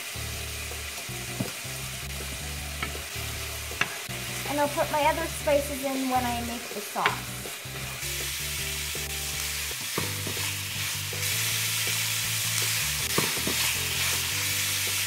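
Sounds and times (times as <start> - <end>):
chicken and onions sizzling: 0.0 - 15.0.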